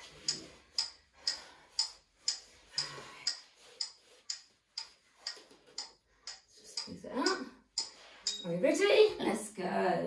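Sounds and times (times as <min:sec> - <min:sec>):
timer ticking: 0:00.0 - 0:08.8.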